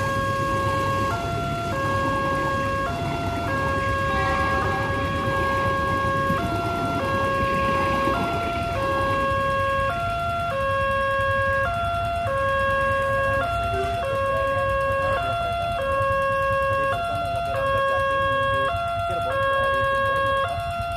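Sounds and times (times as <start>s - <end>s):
level crossing two-tone warning siren: 0.0s - 20.9s.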